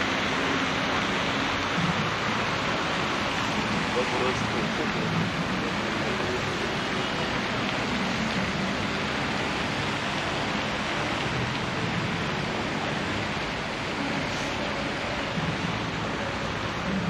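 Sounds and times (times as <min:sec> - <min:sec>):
rushing outdoor ambient noise: 0:00.0 - 0:17.0.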